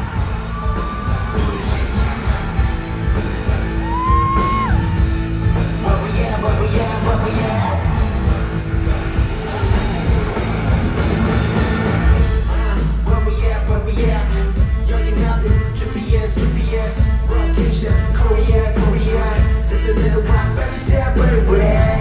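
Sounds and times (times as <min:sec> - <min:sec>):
live concert music with singing: 0:00.0 - 0:22.0.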